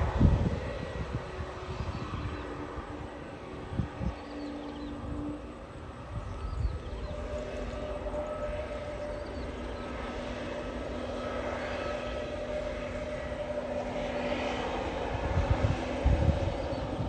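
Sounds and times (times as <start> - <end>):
broad rushing noise: 0.0 - 17.0
jet engine whine: 0.0 - 17.0
low gusty rumbles: 0.0 - 17.0.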